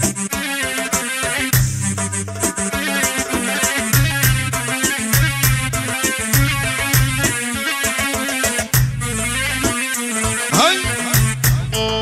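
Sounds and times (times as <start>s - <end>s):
instrumental melody: 0.0s - 12.0s
steady drum beat: 0.0s - 12.0s.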